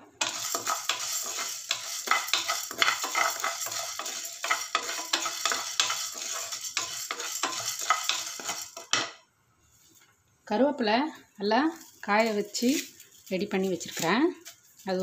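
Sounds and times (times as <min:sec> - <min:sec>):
lentils rattling in a pan: 0:00.1 - 0:09.1, 0:11.7 - 0:15.0.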